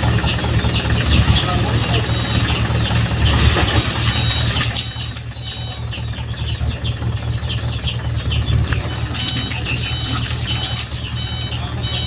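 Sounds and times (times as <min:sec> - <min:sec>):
diesel engine idling: 0:00.0 - 0:12.0
small birds chirping: 0:00.0 - 0:12.0.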